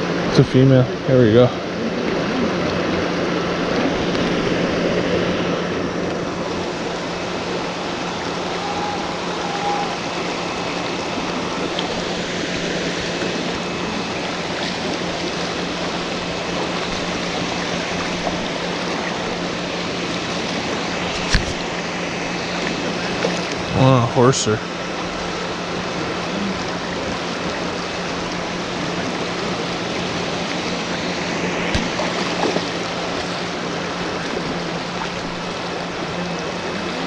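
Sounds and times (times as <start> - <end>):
creek water flowing: 0.0 - 37.0.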